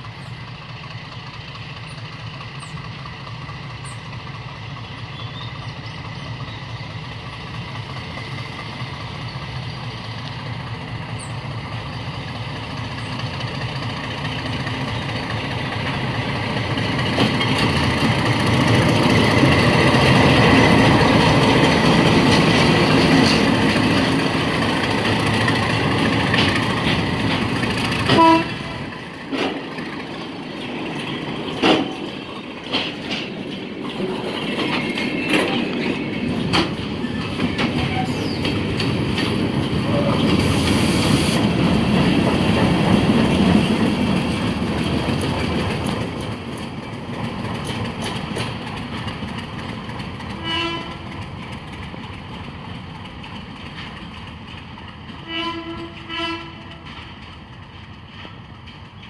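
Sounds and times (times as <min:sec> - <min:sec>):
diesel locomotive engine passing: 0:00.0 - 0:59.0.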